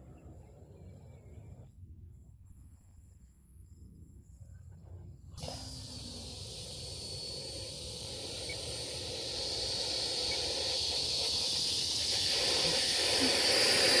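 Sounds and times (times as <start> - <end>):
electric ducted fan whine: 0.0 - 14.0.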